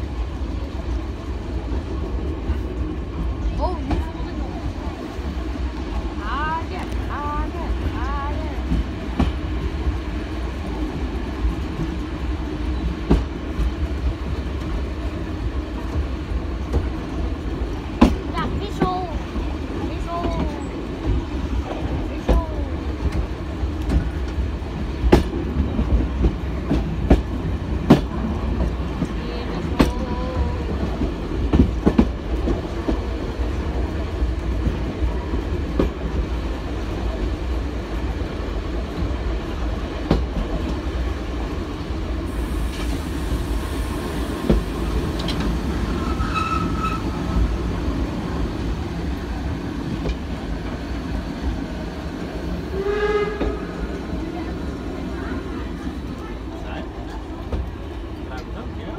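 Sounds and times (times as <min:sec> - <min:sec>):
train rumble: 0:00.0 - 0:58.9.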